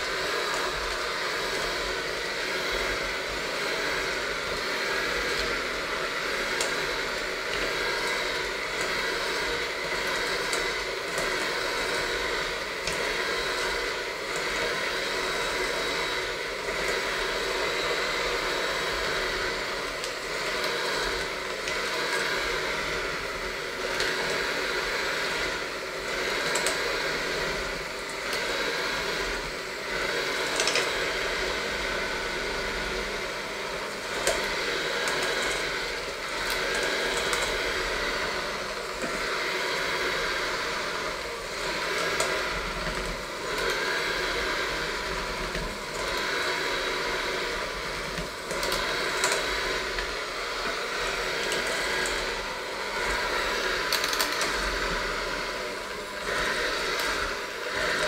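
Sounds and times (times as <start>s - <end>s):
electric hand mixer whirring: 0.0s - 58.0s.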